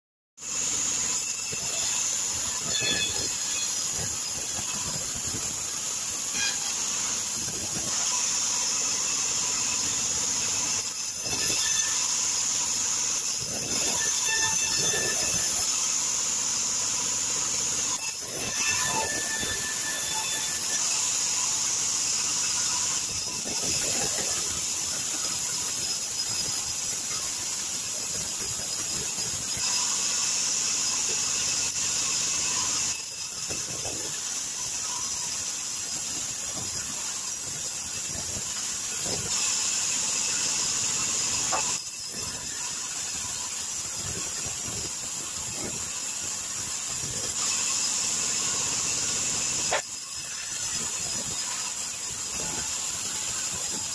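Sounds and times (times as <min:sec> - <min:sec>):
band saw cutting log: 0:00.4 - 0:53.9.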